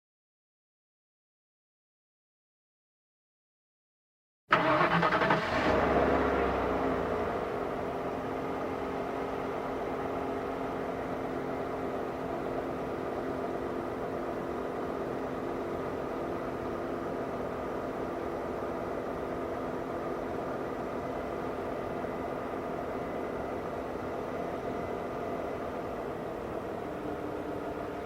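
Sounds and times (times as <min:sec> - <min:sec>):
car engine idling: 0:04.5 - 0:28.0.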